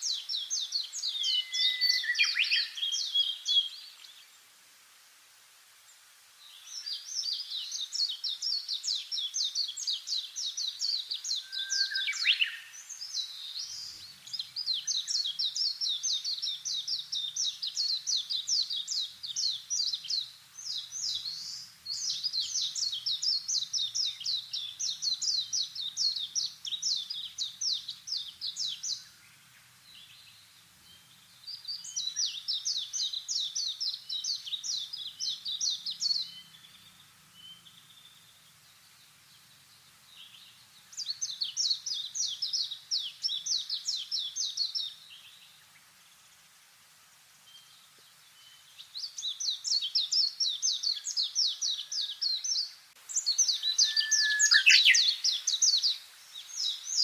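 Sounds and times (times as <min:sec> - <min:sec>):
songbird singing: 0:00.0 - 0:04.8, 0:05.6 - 0:57.0.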